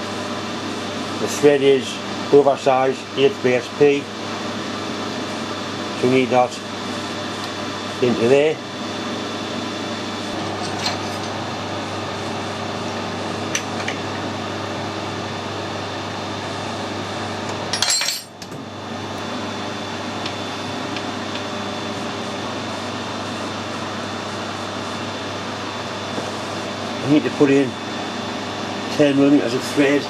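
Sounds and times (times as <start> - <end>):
workshop machine hum: 0.0 - 30.0.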